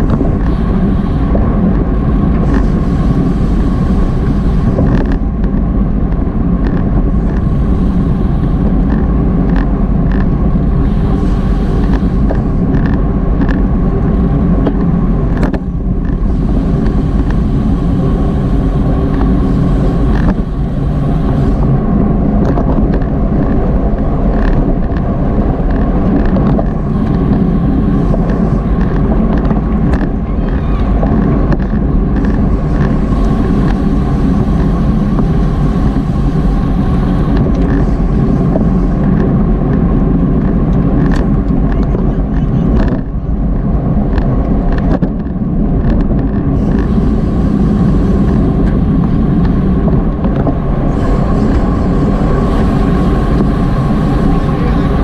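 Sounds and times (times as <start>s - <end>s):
road noise: 0.0s - 55.0s
wind rush: 0.0s - 55.0s.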